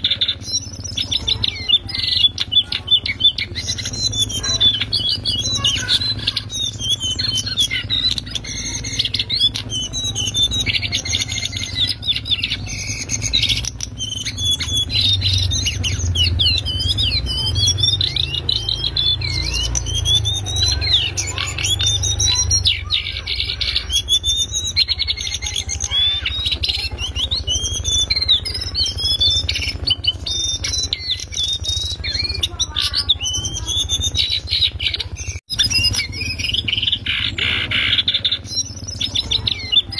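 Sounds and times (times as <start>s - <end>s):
bird chattering warble: 0.0s - 39.9s.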